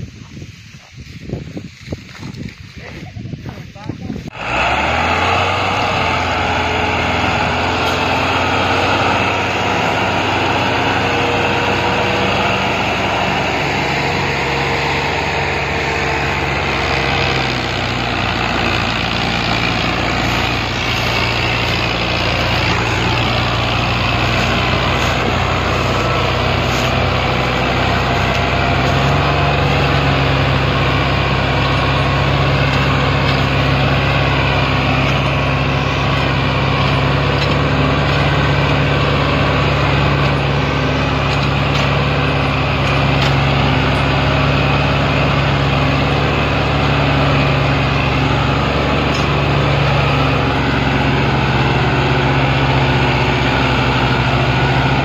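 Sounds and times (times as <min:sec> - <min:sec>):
tractor engine droning: 0:00.0 - 0:55.0.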